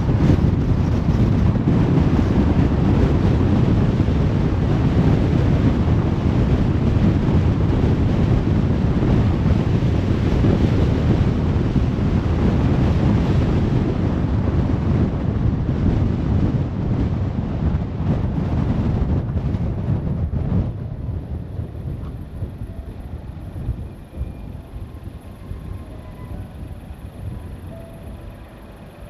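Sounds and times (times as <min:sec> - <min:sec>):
car road noise rumble: 0:00.0 - 0:29.0.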